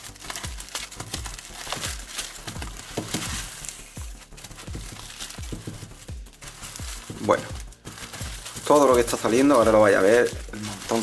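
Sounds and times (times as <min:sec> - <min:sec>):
metal foil crinkling: 0:00.0 - 0:11.0.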